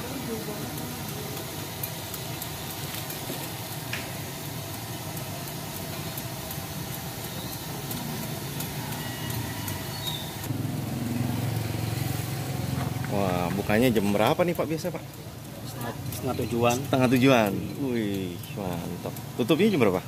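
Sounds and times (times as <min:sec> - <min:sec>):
street background noise: 0:00.0 - 0:20.0
vehicle engine humming: 0:00.0 - 0:20.0.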